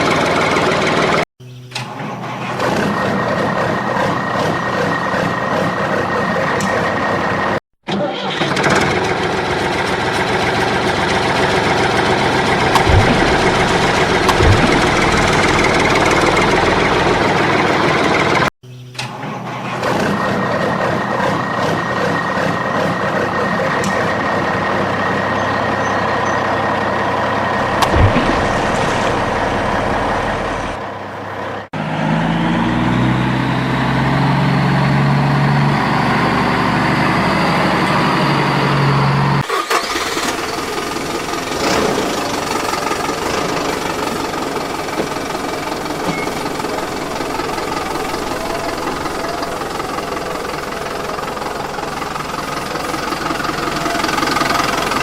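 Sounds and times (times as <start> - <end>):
vehicle engines running: 0.0 - 55.0.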